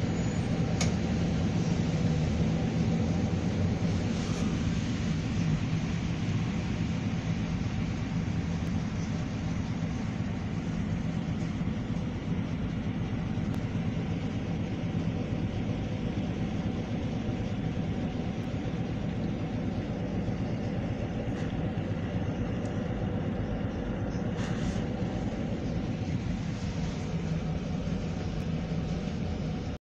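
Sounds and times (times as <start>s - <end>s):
bus interior engine hum: 0.0s - 29.8s.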